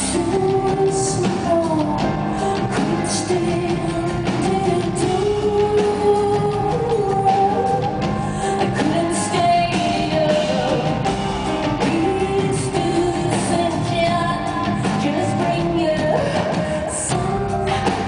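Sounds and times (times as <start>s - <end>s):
live rock band: 0.0s - 18.0s
woman singing: 0.0s - 18.0s.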